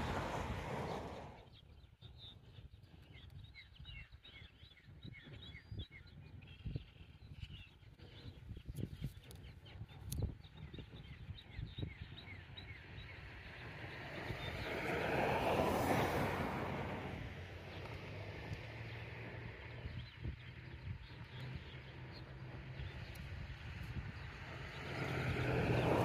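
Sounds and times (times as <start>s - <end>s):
small songbirds chirping: 0.0s - 26.0s
wind rumble on microphone: 0.0s - 26.0s.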